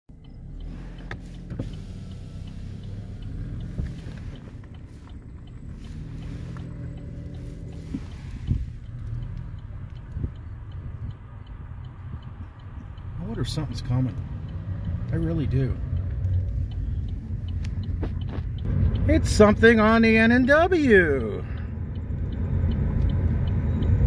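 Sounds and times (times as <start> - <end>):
car engine and road rumble: 0.1 - 24.0.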